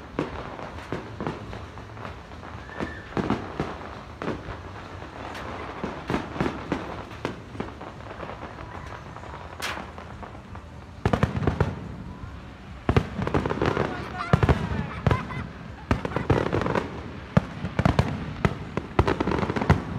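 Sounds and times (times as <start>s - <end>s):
fireworks bangs and pops: 0.0s - 19.9s
fireworks crackling: 0.0s - 19.9s.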